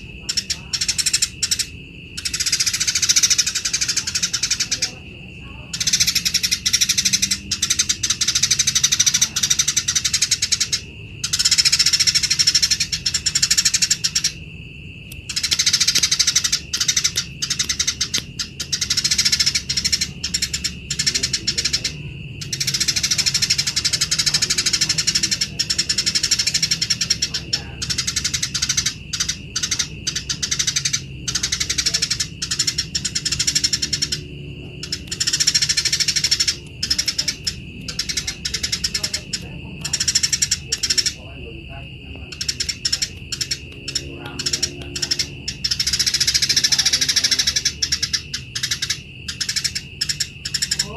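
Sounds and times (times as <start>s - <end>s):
sparrows chattering: 0.0s - 50.9s
steady high tone: 0.0s - 50.9s.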